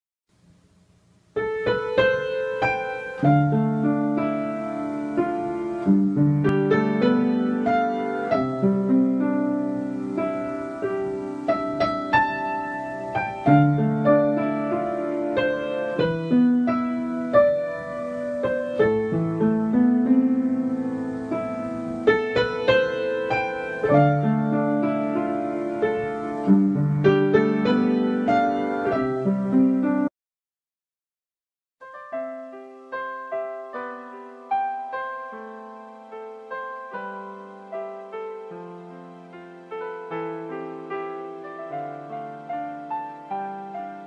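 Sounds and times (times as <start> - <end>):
piano music: 1.3 - 30.1, 31.8 - 44.0.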